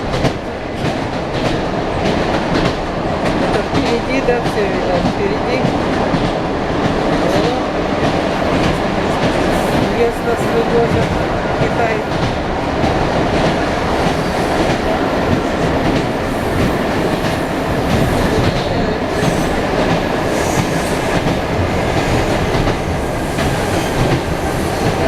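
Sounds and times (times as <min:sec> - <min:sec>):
moving train running noise: 0:00.0 - 0:25.0.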